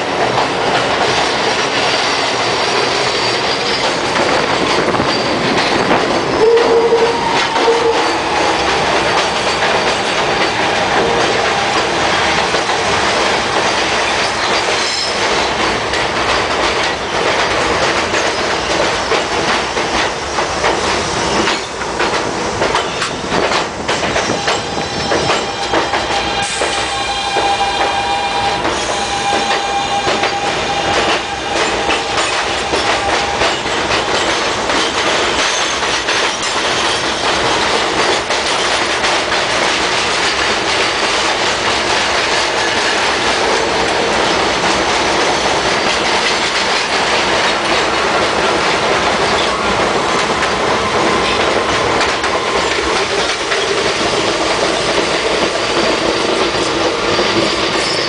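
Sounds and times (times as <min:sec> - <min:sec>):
clickety-clack over rail joints: 0:00.0 - 0:58.0
subway wheels on rail: 0:00.0 - 0:58.0.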